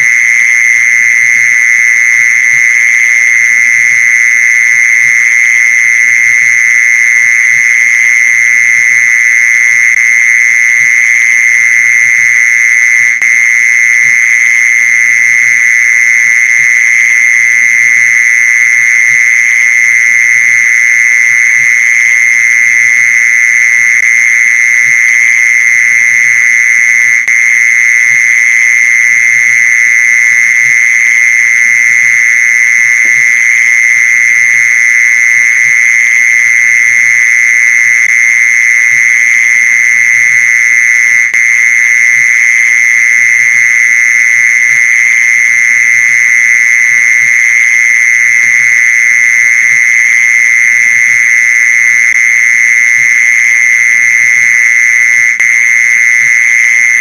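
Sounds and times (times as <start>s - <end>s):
cricket high-pitched trill: 0.0s - 57.0s.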